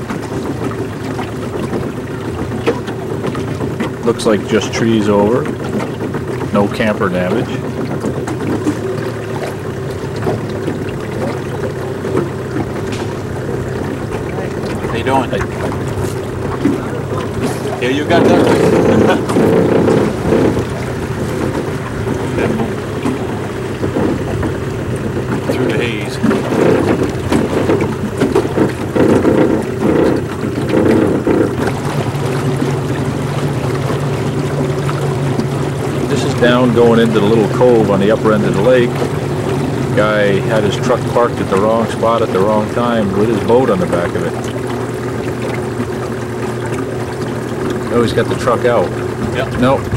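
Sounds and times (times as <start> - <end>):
boat motor humming: 0.0 - 49.9
wind and water rushing: 0.0 - 49.9.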